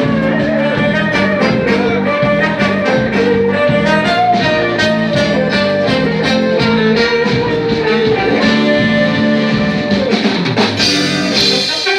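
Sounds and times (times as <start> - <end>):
lead guitar: 0.0 - 11.9
live band playing: 0.0 - 11.9.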